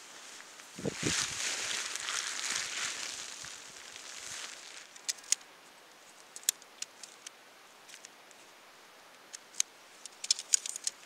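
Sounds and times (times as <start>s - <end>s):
tent poles clicking together: 0.7s - 8.4s, 9.3s - 11.0s.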